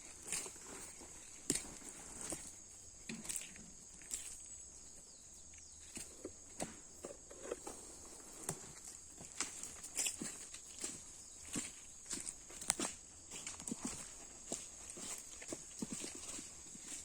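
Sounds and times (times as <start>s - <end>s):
footsteps on muddy trail: 0.0s - 17.0s
insects droning: 0.0s - 17.0s.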